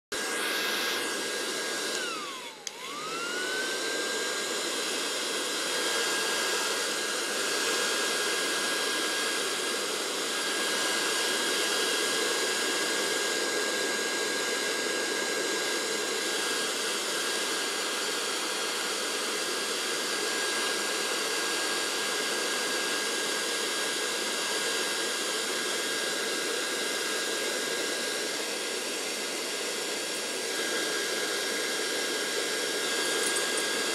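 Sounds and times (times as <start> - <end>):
hair dryer running: 0.1 - 33.9.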